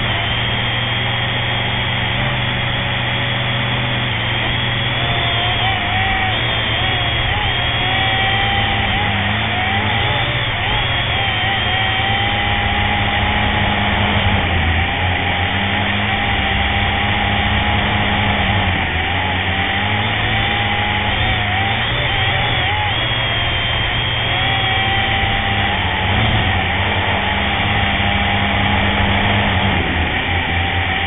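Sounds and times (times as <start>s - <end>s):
drone propellers buzzing whine: 0.0s - 31.0s.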